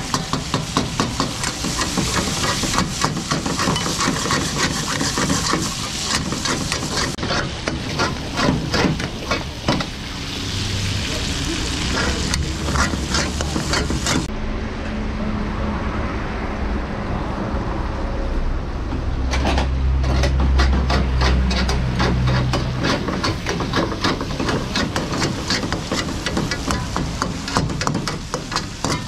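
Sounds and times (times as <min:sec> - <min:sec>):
spatula and tongs scraping wok: 0:00.0 - 0:14.3, 0:19.3 - 0:29.0.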